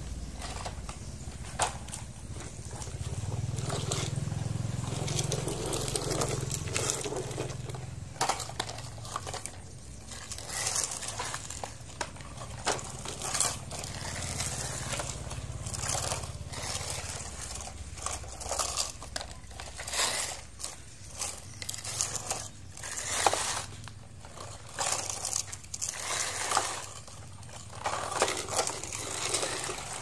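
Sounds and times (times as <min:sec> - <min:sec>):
low steady rumble: 0:00.0 - 0:30.0
plastic toys scraping in dry dirt: 0:00.0 - 0:30.0.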